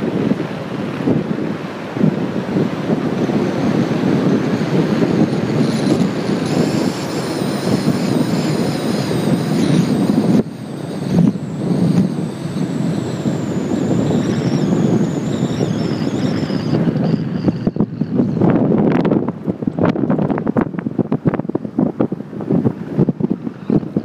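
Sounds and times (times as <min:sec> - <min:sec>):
off-road vehicle engine: 0:00.0 - 0:24.0
wind noise on microphone: 0:00.0 - 0:24.0.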